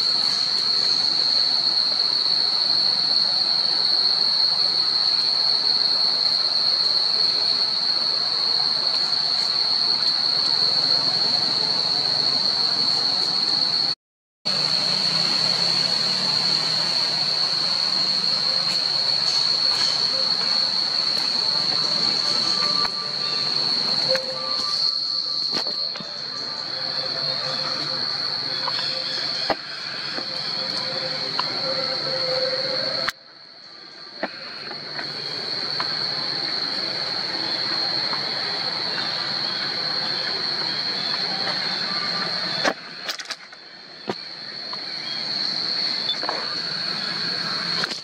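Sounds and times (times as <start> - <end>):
cicadas droning: 0.0 - 48.0.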